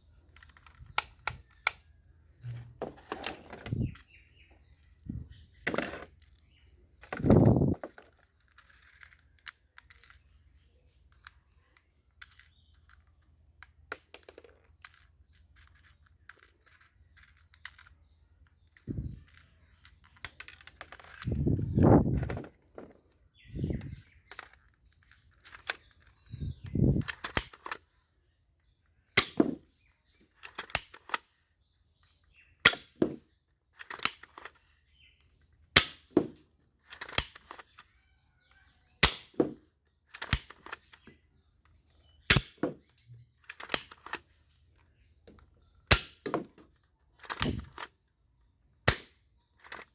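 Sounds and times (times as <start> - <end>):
toy guns clicking and snapping: 0.3 - 5.0, 5.6 - 23.2, 23.8 - 28.0, 28.6 - 29.6, 30.2 - 31.4, 32.6 - 34.7, 35.8 - 48.0, 48.8 - 49.9.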